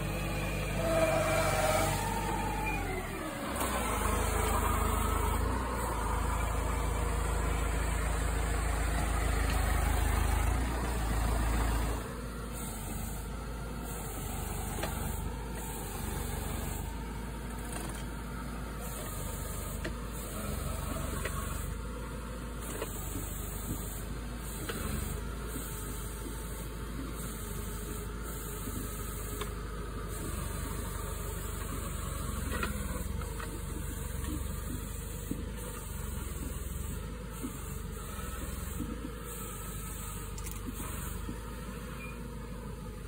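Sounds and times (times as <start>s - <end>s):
tractor engine idling: 0.0s - 43.0s.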